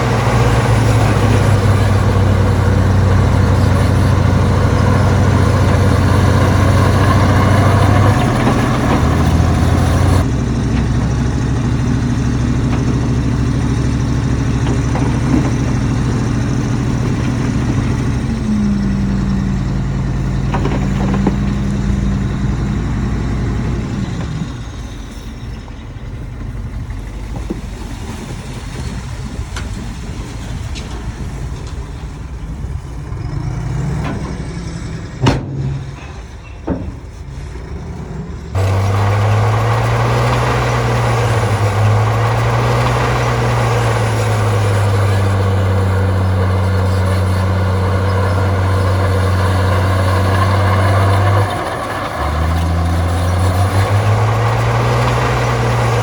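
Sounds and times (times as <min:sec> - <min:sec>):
diesel engines of heavy machinery: 0:00.0 - 0:56.0.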